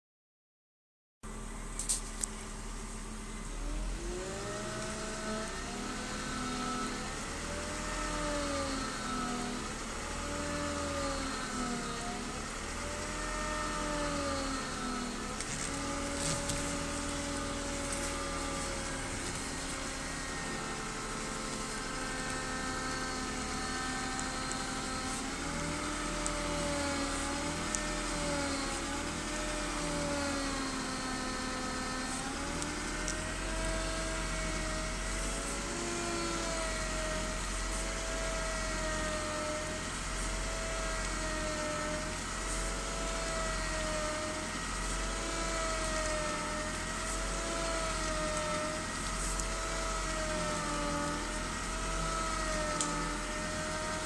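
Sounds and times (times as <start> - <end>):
car engine running: 1.2 - 54.0
power steering pump whining: 1.3 - 54.0.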